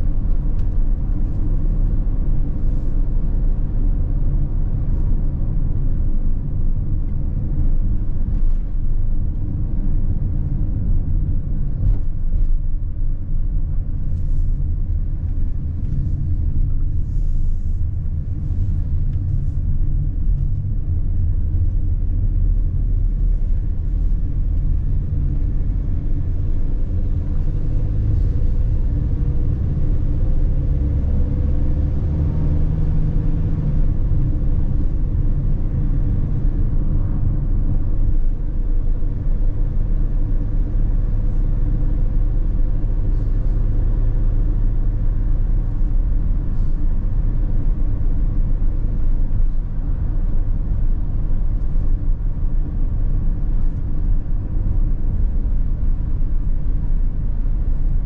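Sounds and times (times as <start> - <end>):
van engine and tyre rumble: 0.0 - 58.0.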